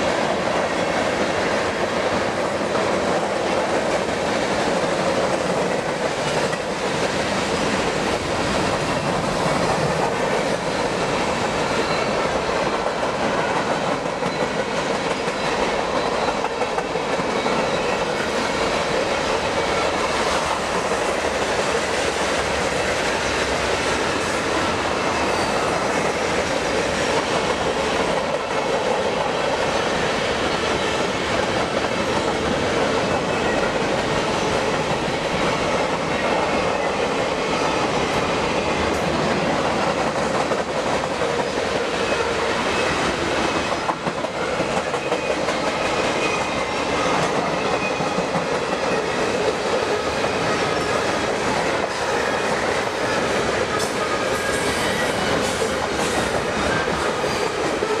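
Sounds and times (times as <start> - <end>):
steel wheels running on rails: 0.0 - 58.0.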